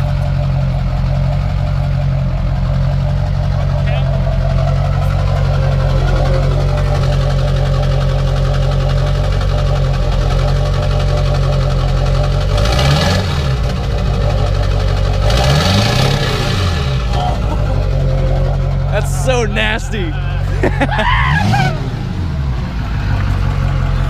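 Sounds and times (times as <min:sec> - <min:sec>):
diesel truck engine idling and revving: 0:00.0 - 0:24.0.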